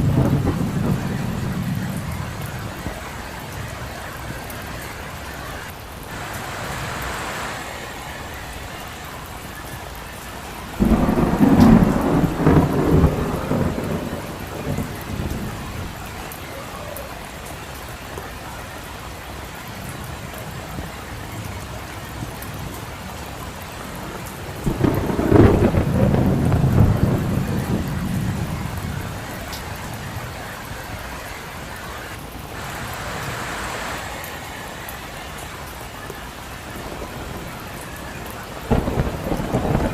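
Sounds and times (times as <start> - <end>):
thunder rolling: 0.0 - 16.7, 24.0 - 39.9
steady rain falling: 0.0 - 39.9.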